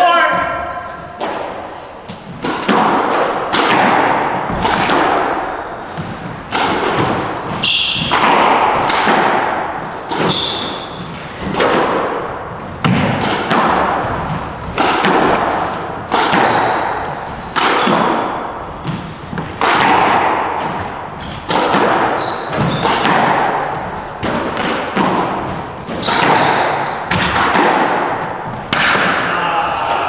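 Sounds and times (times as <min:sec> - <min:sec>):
shoes squeaking on wooden floor: 0:00.0 - 0:03.0, 0:03.8 - 0:09.1, 0:09.8 - 0:20.0, 0:20.6 - 0:28.7
squash ball hits echoing: 0:00.2 - 0:30.0.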